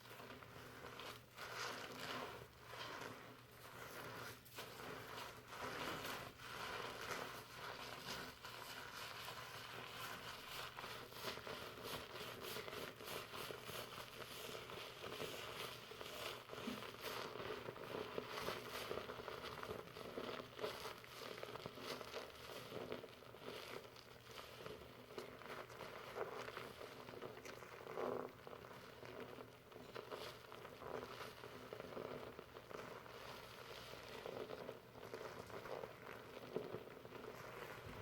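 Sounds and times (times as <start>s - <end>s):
shampoo lather crackling in hair: 0.0s - 38.0s.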